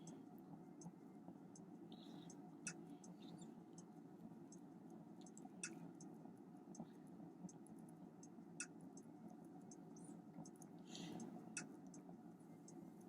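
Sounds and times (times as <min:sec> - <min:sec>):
soft clicks: 0:00.0 - 0:13.0.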